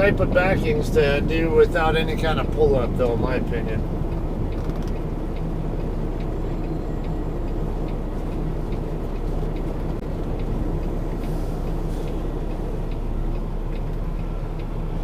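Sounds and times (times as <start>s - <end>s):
diesel truck engine running: 0.0s - 15.0s
faint regular ticking: 0.1s - 15.0s.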